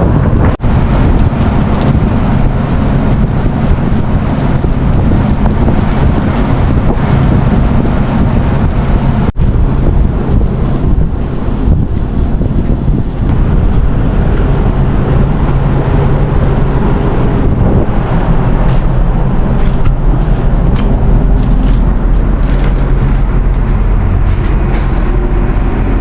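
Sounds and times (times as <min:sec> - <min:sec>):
helicopter engine and rotors: 0:00.1 - 0:26.0.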